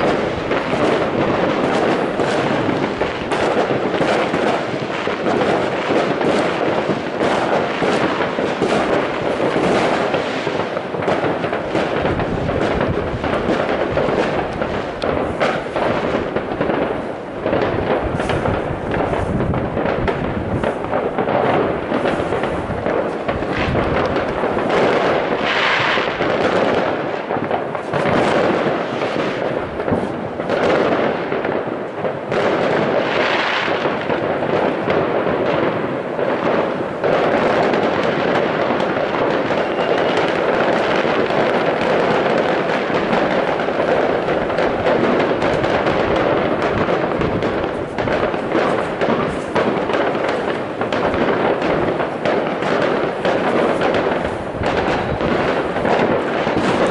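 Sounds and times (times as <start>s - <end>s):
fireworks and firecrackers barrage: 0.0s - 56.9s.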